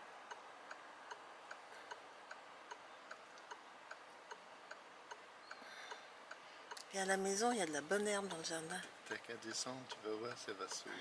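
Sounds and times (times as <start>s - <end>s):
low hiss: 0.0s - 11.0s
mechanical ticking: 0.0s - 11.0s.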